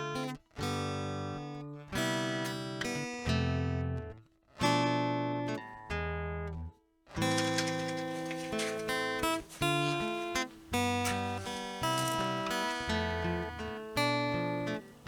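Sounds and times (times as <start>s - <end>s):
slow acoustic guitar chords: 0.0s - 15.0s.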